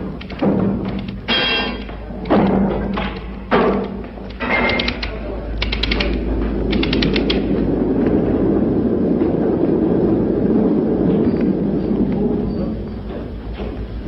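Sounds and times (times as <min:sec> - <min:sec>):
rapid mechanical clicking: 0:00.0 - 0:14.0
steady mechanical drone: 0:00.0 - 0:14.0.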